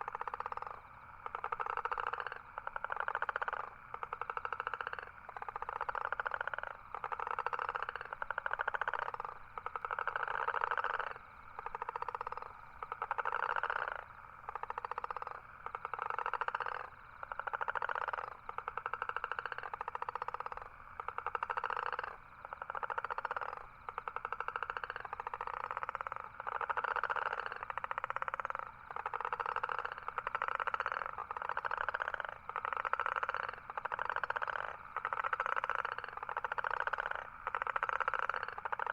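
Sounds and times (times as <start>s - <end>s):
toad calling with buzzy trills: 0.0s - 38.9s.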